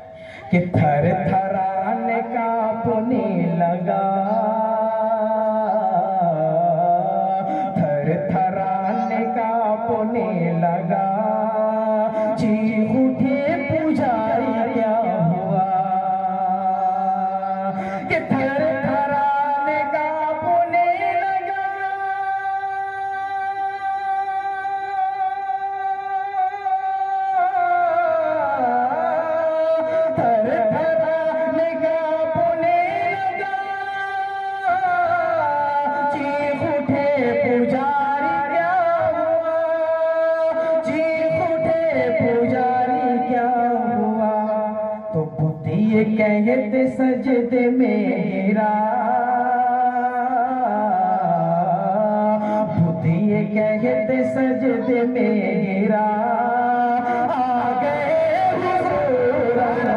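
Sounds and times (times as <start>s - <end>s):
man chanting into a microphone: 0.0s - 59.9s.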